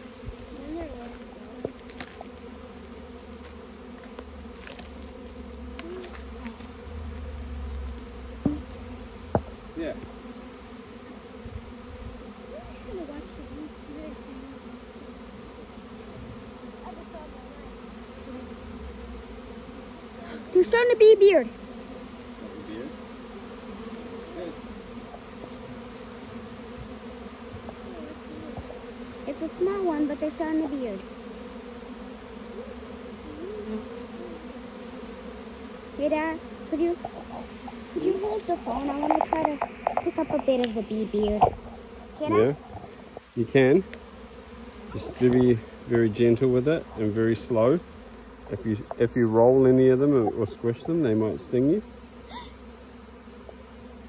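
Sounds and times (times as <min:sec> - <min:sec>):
single bees buzzing past: 0:00.0 - 0:54.0
swarm of bees buzzing: 0:00.0 - 0:54.0.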